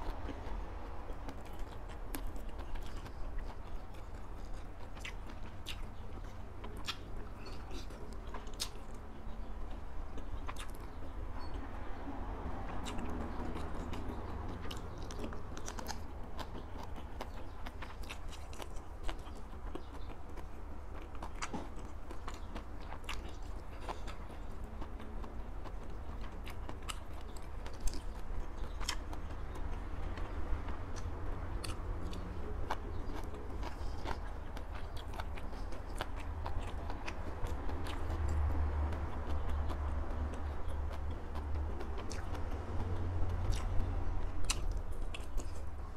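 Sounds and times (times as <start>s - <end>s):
person chewing food: 0.0s - 45.9s
steady low hum: 0.0s - 45.9s.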